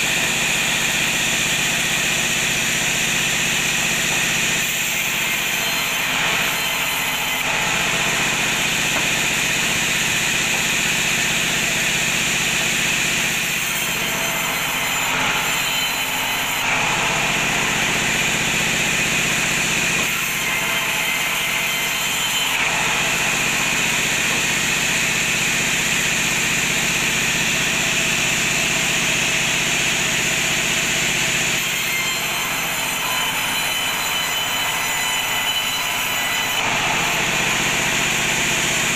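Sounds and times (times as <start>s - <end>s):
bandsaw cutting wood: 0.0s - 38.9s.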